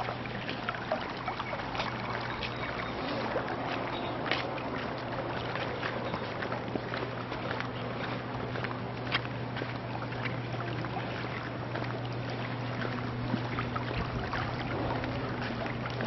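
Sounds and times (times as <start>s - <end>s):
constant low hum: 0.0s - 16.0s.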